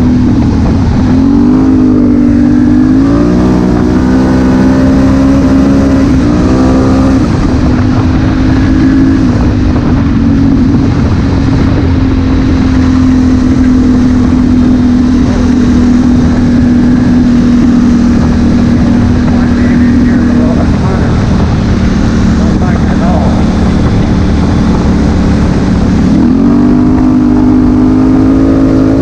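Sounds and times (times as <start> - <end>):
motorcycle engine revving: 0.0 - 29.0
wind and road noise: 0.0 - 29.0.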